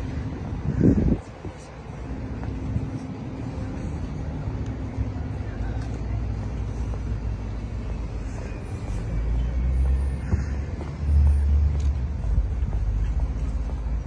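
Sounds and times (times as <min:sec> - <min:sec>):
road traffic rumble: 0:00.0 - 0:14.0
vehicle approaching: 0:00.0 - 0:14.0.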